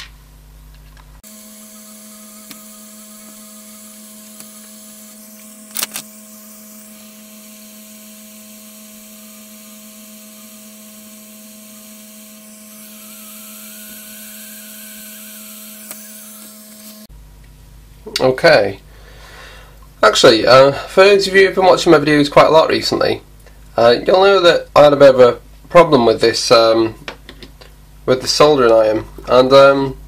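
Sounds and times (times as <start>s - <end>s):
workbench hum and hiss: 0.0s - 30.0s.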